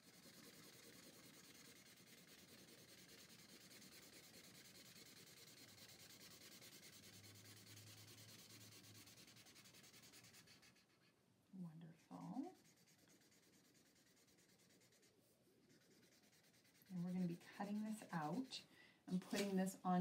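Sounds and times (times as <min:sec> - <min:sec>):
marker scribbling on paper: 0:00.0 - 0:11.1, 0:11.9 - 0:18.6, 0:19.2 - 0:19.6.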